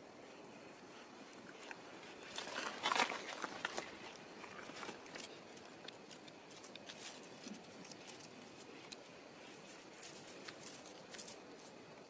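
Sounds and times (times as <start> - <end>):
faint ticks and rustling: 0.0 - 12.0.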